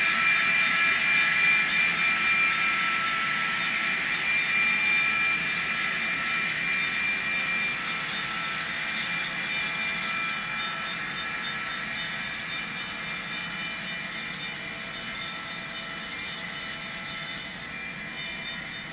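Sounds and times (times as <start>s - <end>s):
model train whine: 0.0s - 18.9s.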